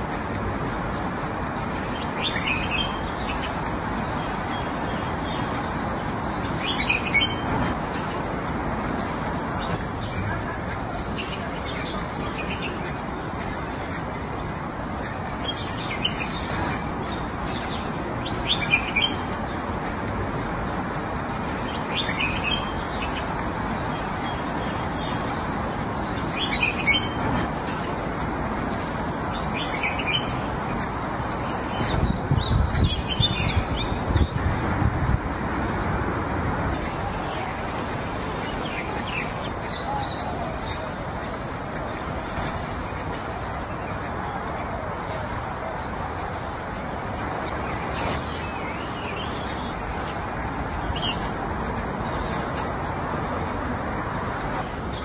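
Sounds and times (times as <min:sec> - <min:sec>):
outdoor background hiss: 0:00.0 - 0:55.0
small birds chirping: 0:00.0 - 0:55.0.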